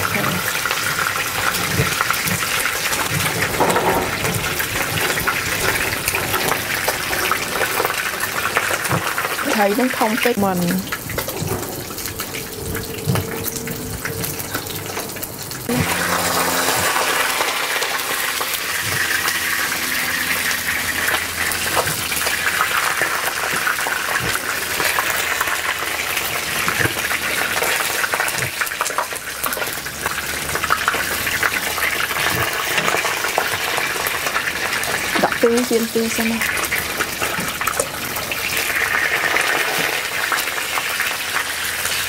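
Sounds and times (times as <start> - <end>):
fish sizzling in hot oil: 0.0 - 42.0.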